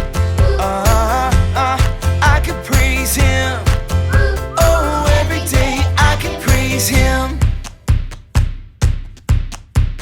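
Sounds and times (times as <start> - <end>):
drum hits: 0.0 - 10.0
upbeat children's pop music: 0.0 - 10.0.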